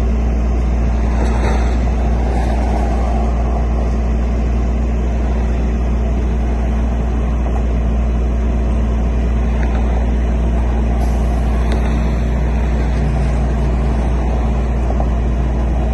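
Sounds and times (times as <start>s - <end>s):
vehicle engine rumbling: 0.0s - 15.9s.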